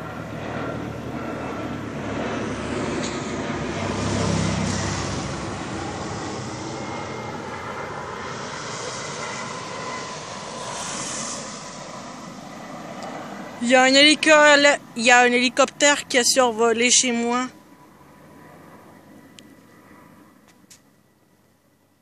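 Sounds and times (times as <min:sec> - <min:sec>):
helicopter rotor beating: 0:00.0 - 0:20.3
helicopter turbine noise: 0:00.0 - 0:21.9.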